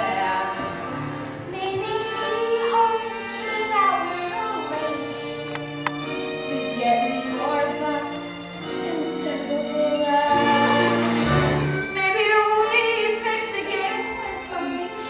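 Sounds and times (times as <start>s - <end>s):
instrumental accompaniment: 0.0s - 15.0s
young people singing: 0.0s - 15.0s.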